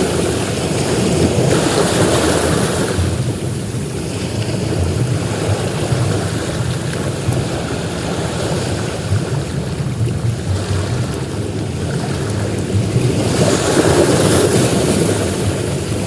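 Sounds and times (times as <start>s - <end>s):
ocean waves on beach: 0.0s - 16.0s.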